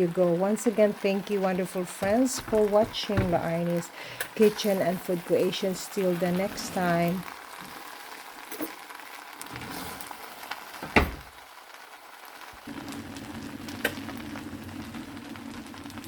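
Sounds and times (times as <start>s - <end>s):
noodles sizzling in a pan: 0.0s - 16.0s.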